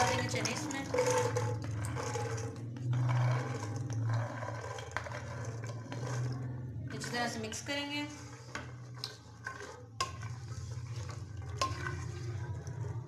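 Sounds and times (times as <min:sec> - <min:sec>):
spatula scraping a plate: 0:00.0 - 0:13.0.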